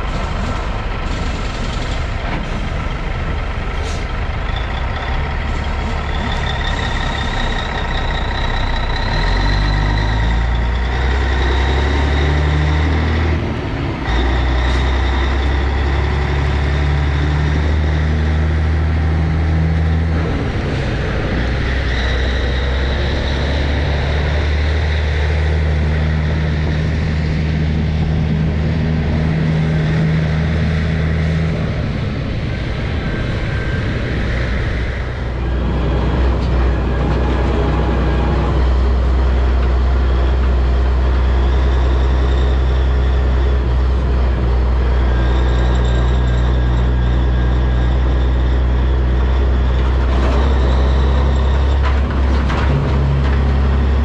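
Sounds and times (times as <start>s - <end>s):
road and wind noise: 0.0s - 54.0s
vehicle engine droning: 0.0s - 54.0s.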